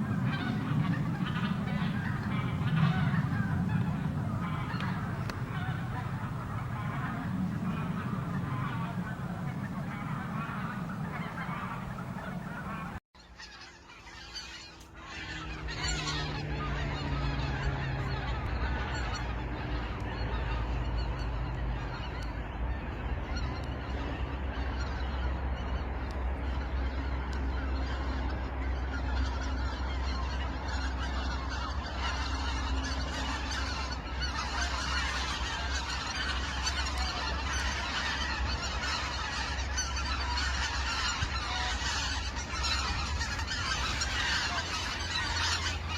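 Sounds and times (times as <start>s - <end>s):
geese honking: 0.0s - 45.9s
steady low rumble: 0.0s - 45.9s.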